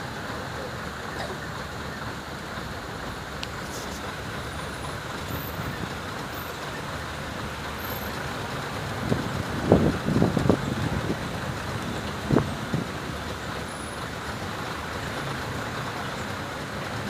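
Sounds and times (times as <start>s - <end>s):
motorway traffic noise: 0.0s - 17.0s.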